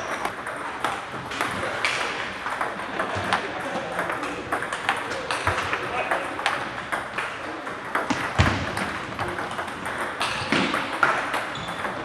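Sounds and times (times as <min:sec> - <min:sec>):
table tennis ball clicking: 0:00.0 - 0:03.4, 0:04.0 - 0:12.0.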